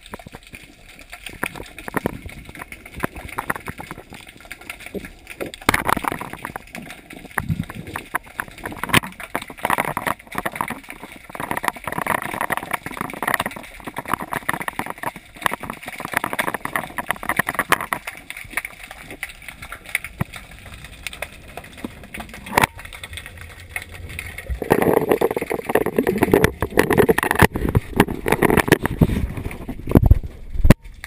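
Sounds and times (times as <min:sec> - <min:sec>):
underwater clicks and knocks: 0:00.0 - 0:31.0
underwater water rush: 0:00.0 - 0:31.0.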